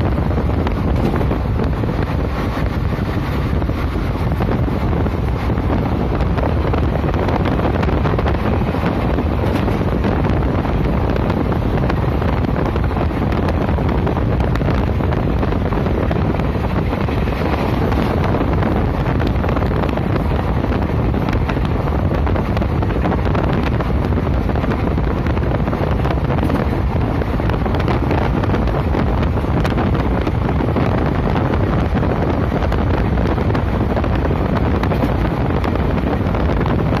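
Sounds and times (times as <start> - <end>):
train running along the track: 0.0 - 37.0
wind buffeting the microphone: 0.0 - 37.0.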